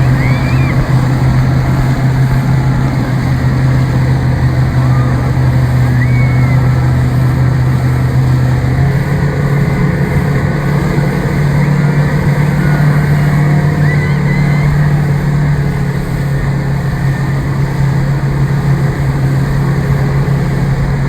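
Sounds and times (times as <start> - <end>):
motorboat engine running: 0.0 - 21.0
water and wind noise: 0.0 - 21.0.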